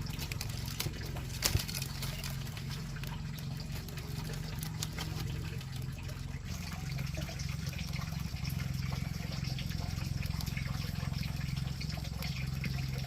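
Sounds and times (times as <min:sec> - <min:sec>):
low hum: 0:00.0 - 0:13.0
water filling a container: 0:00.0 - 0:13.0.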